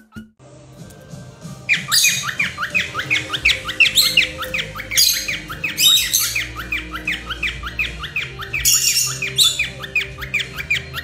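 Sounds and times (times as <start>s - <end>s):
quiet background music: 0.0s - 11.0s
cockatiel squawks: 1.7s - 11.0s
cockatiels chirping: 1.7s - 11.0s.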